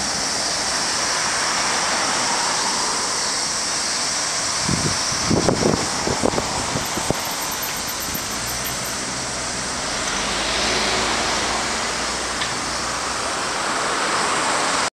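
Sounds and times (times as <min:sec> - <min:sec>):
cicadas buzzing: 0:00.0 - 0:14.9
low rumble of city traffic: 0:00.0 - 0:14.9.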